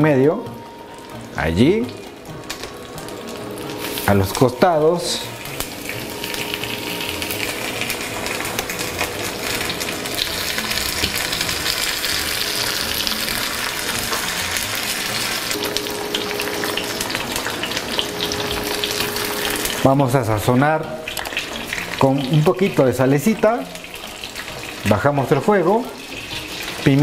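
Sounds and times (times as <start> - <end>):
butter sizzling in a frying pan: 0.8 - 27.0.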